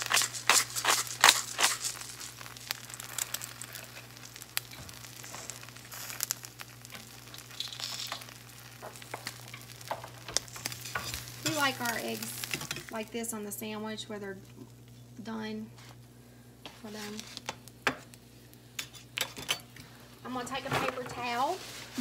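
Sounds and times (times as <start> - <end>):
eggs sizzling in a skillet: 0.0 - 22.0.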